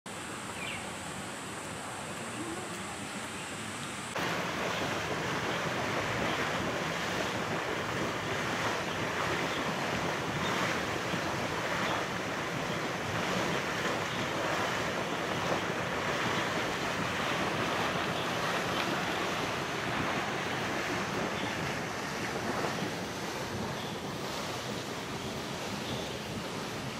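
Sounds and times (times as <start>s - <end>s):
geyser water rushing and splashing: 0.2s - 26.9s.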